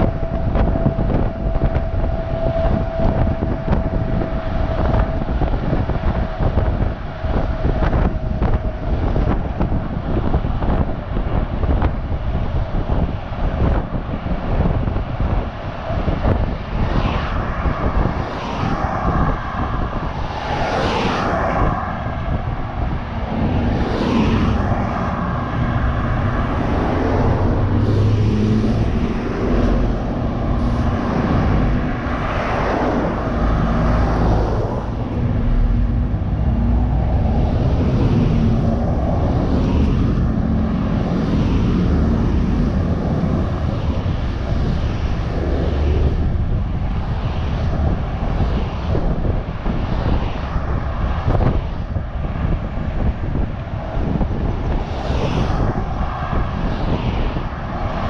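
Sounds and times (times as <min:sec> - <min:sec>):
bus engine and tyre rumble: 0:00.0 - 0:58.0
vehicles swishing past: 0:00.0 - 0:58.0
wind on microphone: 0:00.0 - 0:58.0.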